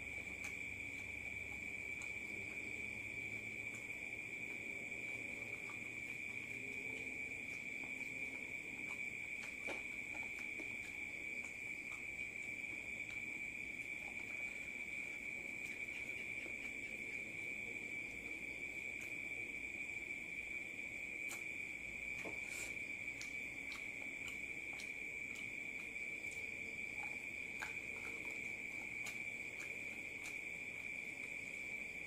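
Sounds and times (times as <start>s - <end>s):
crickets trilling: 0.0s - 32.0s
person eating by hand: 0.0s - 32.0s.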